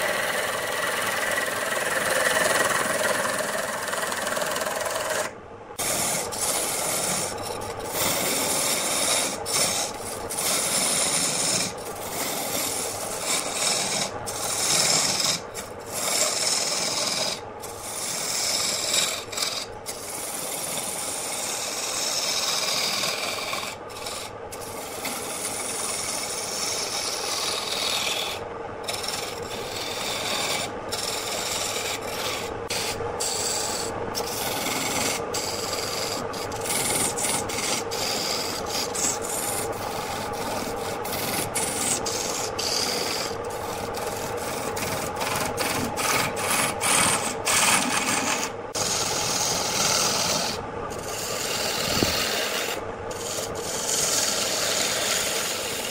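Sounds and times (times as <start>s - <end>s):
lathe tool scraping wood: 0.0s - 55.9s.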